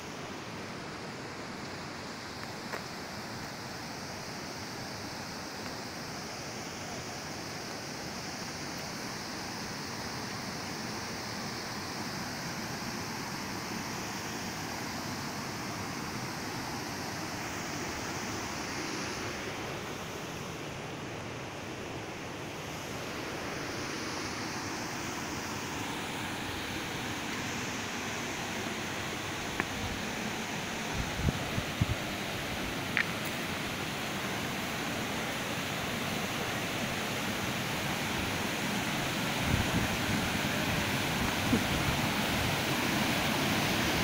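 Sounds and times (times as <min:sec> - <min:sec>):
river water rushing over rocks: 0:00.0 - 0:44.0.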